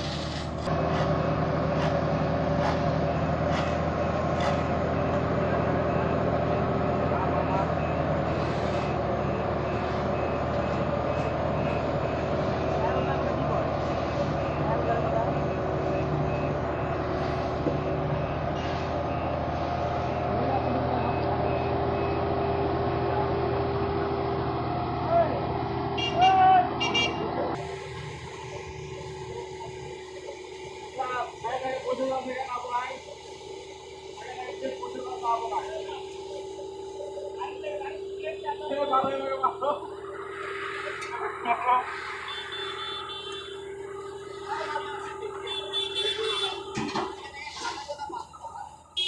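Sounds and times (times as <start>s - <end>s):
heavy vehicle engine running: 0.0s - 49.0s
reversing alarm beeping: 3.0s - 22.8s, 26.8s - 47.7s.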